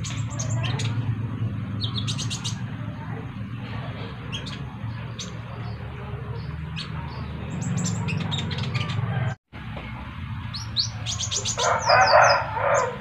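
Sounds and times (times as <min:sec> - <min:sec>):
sunbirds chirping: 0:00.0 - 0:13.0.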